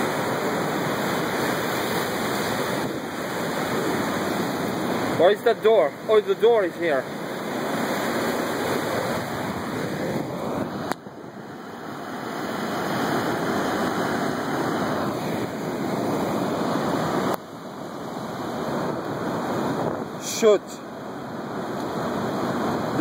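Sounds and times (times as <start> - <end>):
wind and rain on microphone: 0.0 - 23.0.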